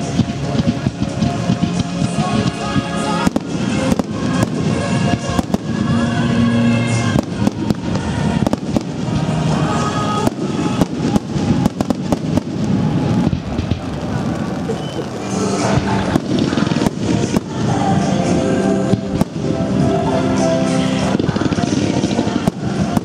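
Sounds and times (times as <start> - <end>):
fireworks bangs and crackling: 0.0 - 23.0
music playing: 0.0 - 23.0.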